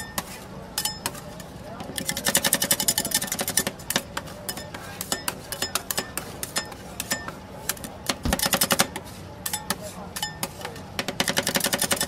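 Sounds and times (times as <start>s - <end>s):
metal spatulas scraping steel plate: 0.0s - 10.8s.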